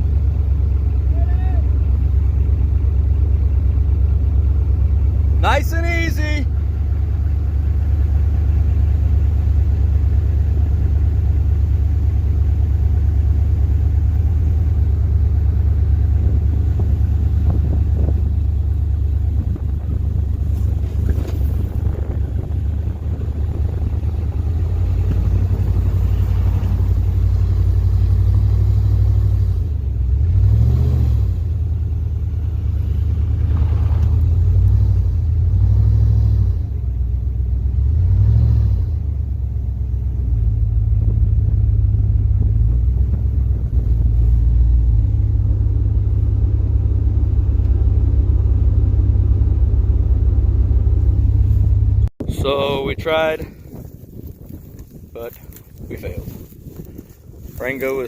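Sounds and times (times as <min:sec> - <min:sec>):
vehicle engine revving: 0:00.0 - 0:52.1.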